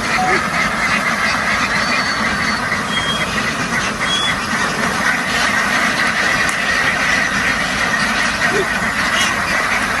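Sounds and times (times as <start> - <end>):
flock of ducks quacking: 0.0 - 10.0.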